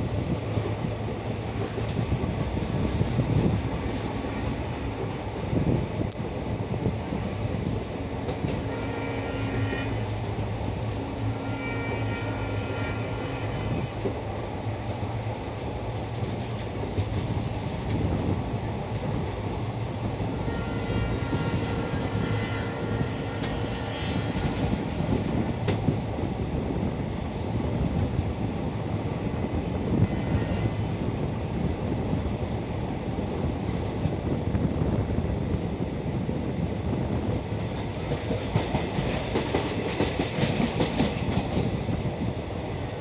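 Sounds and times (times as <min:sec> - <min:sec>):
rail clicks: 0:00.0 - 0:31.7, 0:33.1 - 0:35.0, 0:37.1 - 0:43.0
train rumbling on rails: 0:00.0 - 0:43.0.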